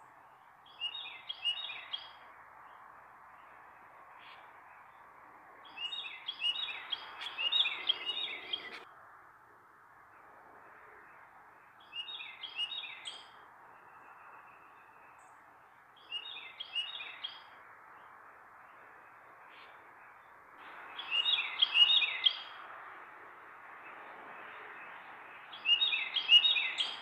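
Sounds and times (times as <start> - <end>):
songbird singing down-slurred notes: 0.0 - 8.9, 10.2 - 22.6, 23.8 - 27.0.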